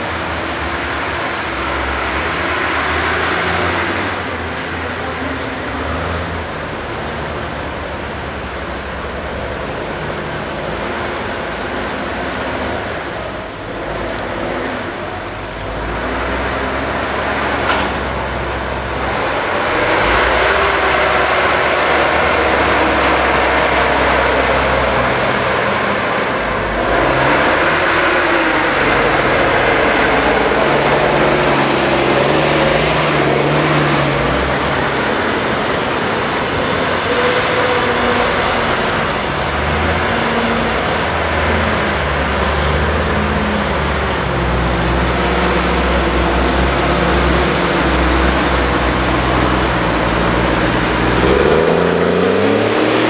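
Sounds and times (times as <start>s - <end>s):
diesel engines working under load: 0.0s - 53.0s.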